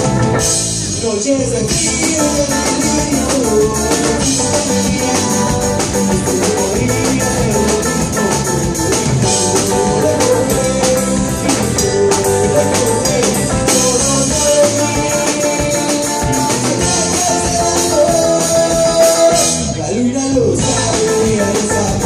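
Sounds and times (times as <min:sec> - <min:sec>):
drum kit steady beat: 0:00.0 - 0:22.0
electric bass: 0:00.0 - 0:22.0
electric guitar: 0:00.0 - 0:22.0.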